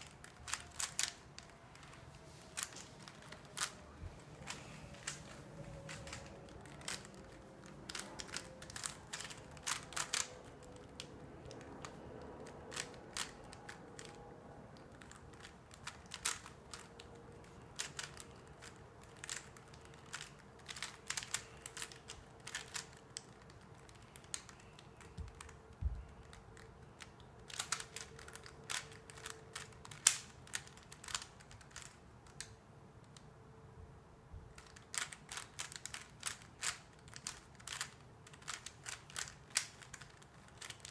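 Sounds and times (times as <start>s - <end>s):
speed cube clicking: 0.0s - 1.9s, 2.6s - 3.8s, 4.4s - 14.2s, 14.8s - 33.3s, 34.6s - 40.9s.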